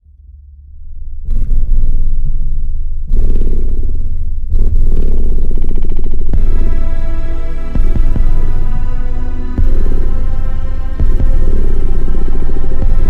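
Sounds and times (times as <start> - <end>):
subwoofer playing bass music: 0.0 - 13.0.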